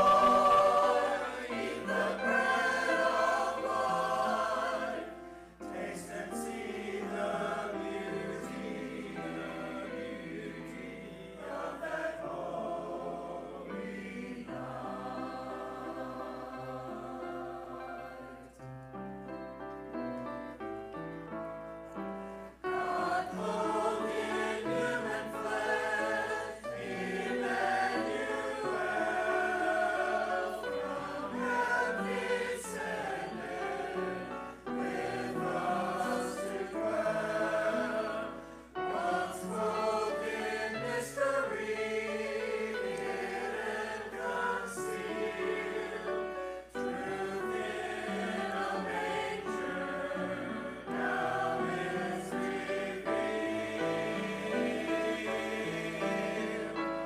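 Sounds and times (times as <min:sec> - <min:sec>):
church choir singing: 0:00.0 - 0:57.0.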